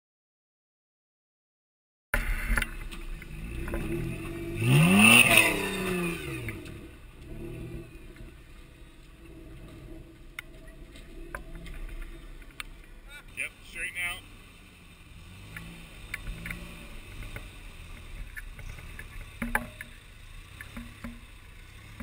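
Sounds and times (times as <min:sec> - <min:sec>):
truck engine revving: 0:02.2 - 0:22.0.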